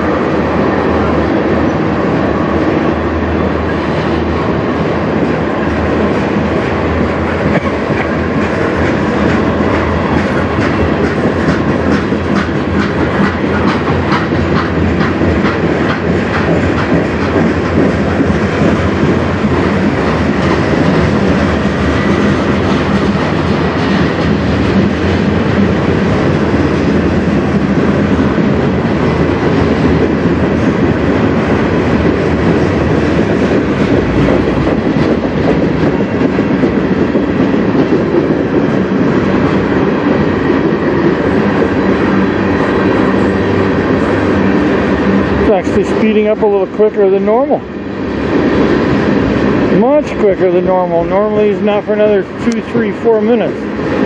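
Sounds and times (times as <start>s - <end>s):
train wheels clattering on rail joints: 0.0s - 54.0s.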